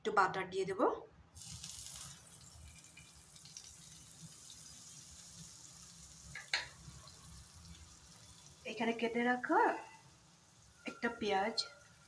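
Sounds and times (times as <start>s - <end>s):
butter sizzling in frying pan: 1.4s - 12.0s.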